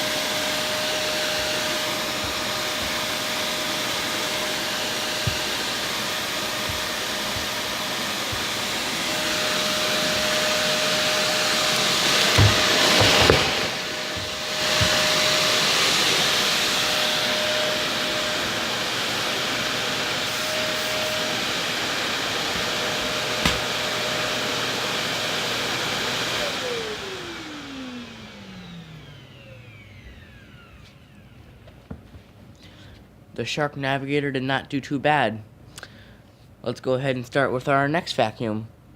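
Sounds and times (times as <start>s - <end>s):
vacuum motor winding down: 0.0s - 31.8s
vacuum cleaner whining: 0.0s - 33.0s.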